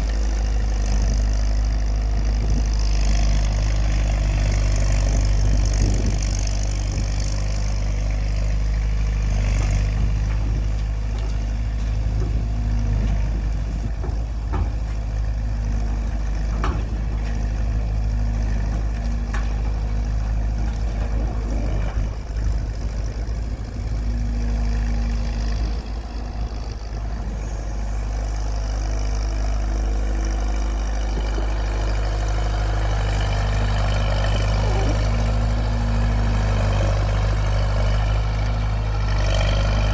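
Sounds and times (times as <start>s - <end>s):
heavy machinery engine humming: 0.0s - 39.9s.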